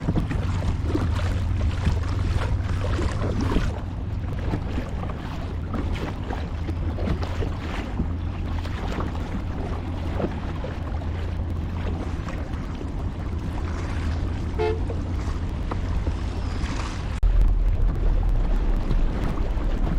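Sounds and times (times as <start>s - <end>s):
paddle splashes: 0.0s - 19.9s
steady low rumble: 0.0s - 19.9s
water lapping: 0.0s - 19.9s.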